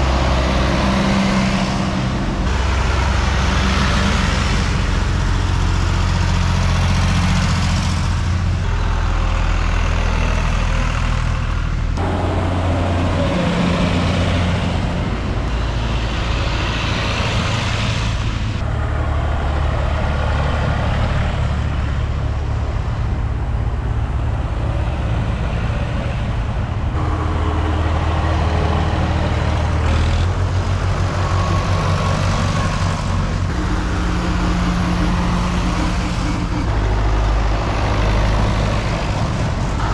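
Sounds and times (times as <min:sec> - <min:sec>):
tractor engines chugging: 0:00.0 - 0:39.9.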